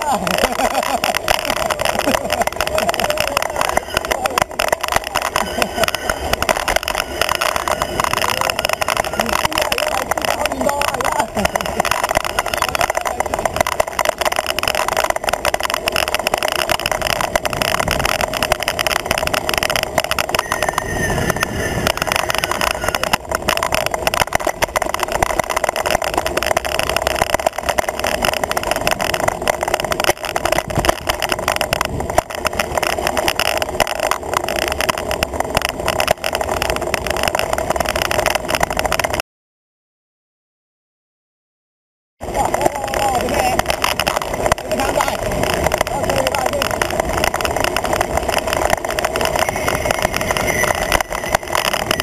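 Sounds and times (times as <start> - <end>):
bicycle tyre and road noise: 0.0 - 39.2, 42.2 - 52.0
wind rushing over camera: 0.0 - 39.2, 42.2 - 52.0.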